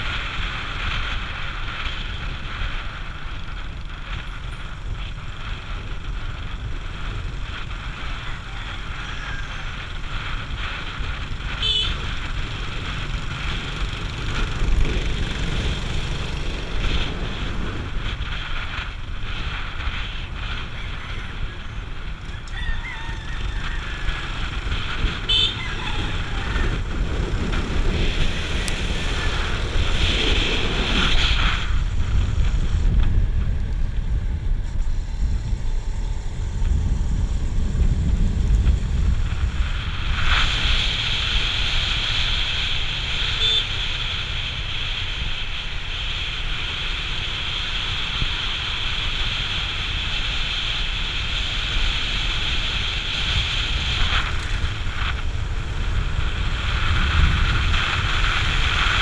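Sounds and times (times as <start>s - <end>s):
wind buffeting microphone: 0.0s - 46.6s, 48.0s - 59.0s
motorcycle engine: 0.0s - 59.0s.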